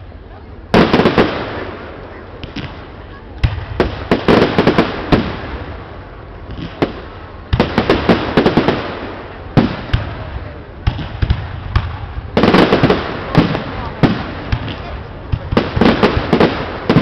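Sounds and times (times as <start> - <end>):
fireworks crackling: 0.0 - 17.0
fireworks bangs: 0.7 - 17.0.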